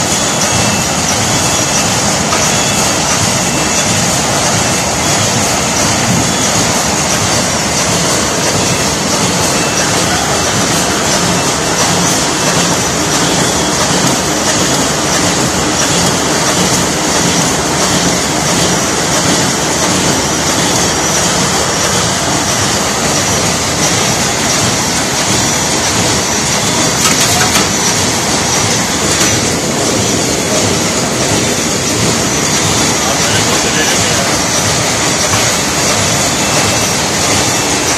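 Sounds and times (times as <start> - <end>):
conveyor machinery running: 0.0 - 37.9
machine clatter: 0.0 - 37.9.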